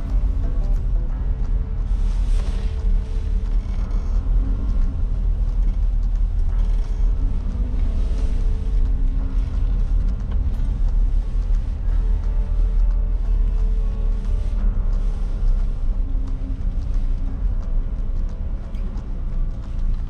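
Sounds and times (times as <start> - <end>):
car engine low rumble: 0.0 - 20.0
road noise: 0.0 - 20.0.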